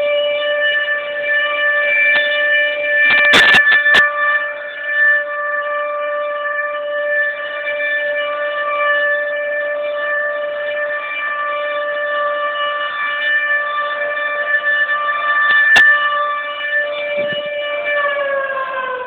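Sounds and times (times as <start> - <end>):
air raid siren: 0.0 - 19.0.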